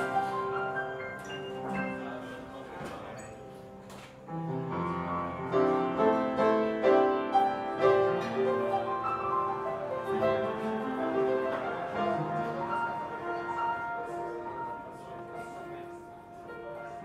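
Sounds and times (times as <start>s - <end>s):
piano chords and melody: 0.0s - 17.0s.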